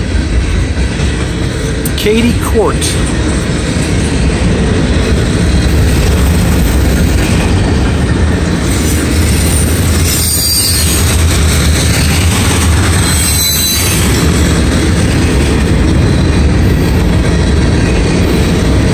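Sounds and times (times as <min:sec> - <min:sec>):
freight train wheels rumbling: 0:00.0 - 0:18.9.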